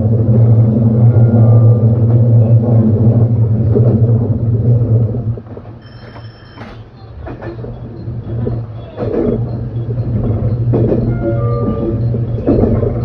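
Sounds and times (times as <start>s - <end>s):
train hum and rumble: 0.0s - 13.0s.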